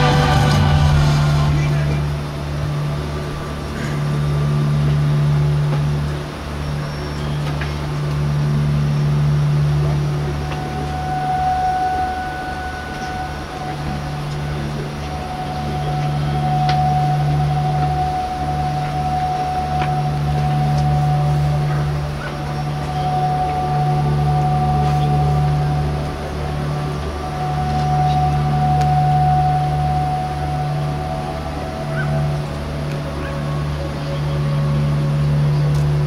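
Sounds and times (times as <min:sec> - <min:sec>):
ambient drone over loudspeakers: 0:00.0 - 0:36.0
sustained high tone: 0:00.0 - 0:36.0
throbbing bass pulse: 0:00.0 - 0:36.0.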